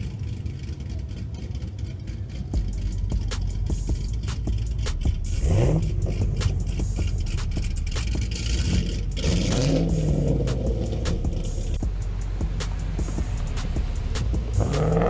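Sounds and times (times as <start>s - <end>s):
car engines revving: 0.0s - 15.0s
low engine rumble: 0.0s - 15.0s.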